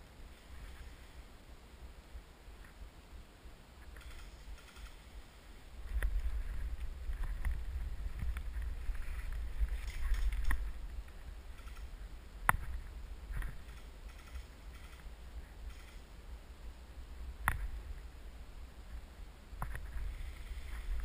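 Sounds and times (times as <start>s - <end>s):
low microphone rumble: 4.0s - 21.0s.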